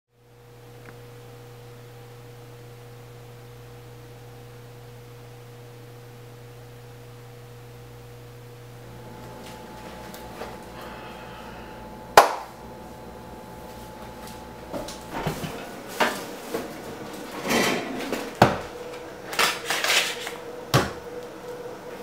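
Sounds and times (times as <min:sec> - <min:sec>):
low electrical hum: 0:00.2 - 0:22.0.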